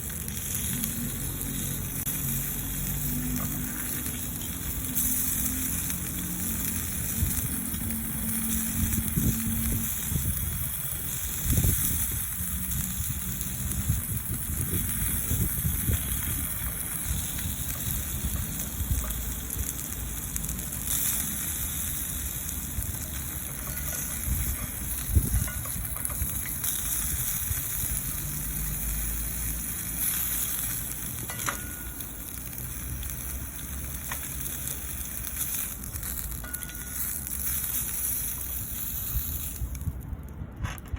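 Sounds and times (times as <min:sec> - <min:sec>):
sausages sizzling: 0:00.0 - 0:40.1
campfire crackling: 0:00.0 - 0:40.9.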